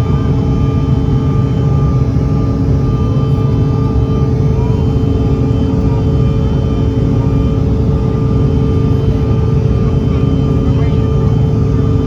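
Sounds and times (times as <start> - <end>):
jet engines in passenger cabin: 0.0 - 12.0.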